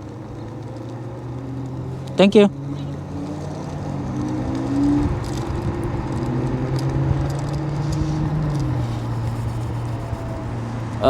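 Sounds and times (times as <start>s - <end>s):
motor hum: 0.0s - 11.0s
road and wind noise: 0.0s - 11.0s.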